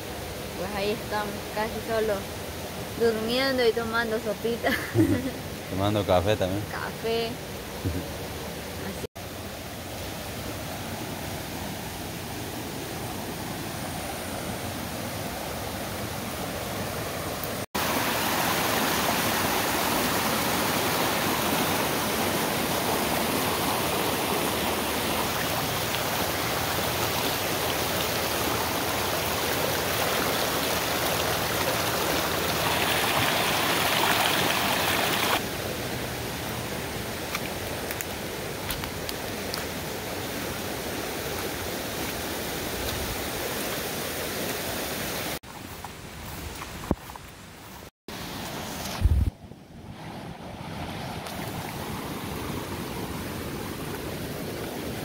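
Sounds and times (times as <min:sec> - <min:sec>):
creek rushing over rocks: 0:03.0 - 0:45.4, 0:49.9 - 0:55.0.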